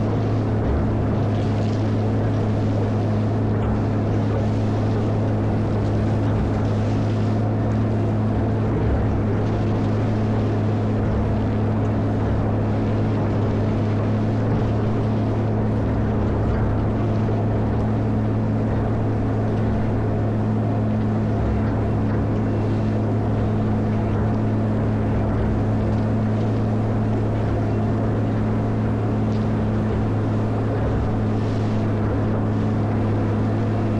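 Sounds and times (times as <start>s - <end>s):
diesel engine humming: 0.0s - 33.9s.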